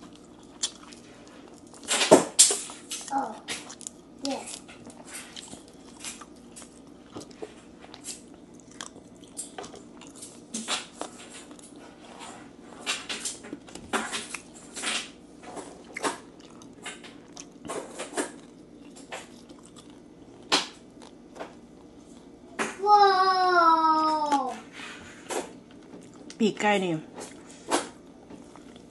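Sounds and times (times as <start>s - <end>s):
crunchy chewing: 0.0s - 22.4s, 25.3s - 26.4s, 27.2s - 28.9s.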